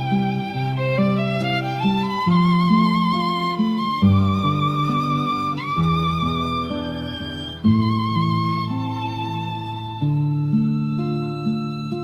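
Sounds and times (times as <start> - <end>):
slow soft instrumental music: 0.0 - 12.0.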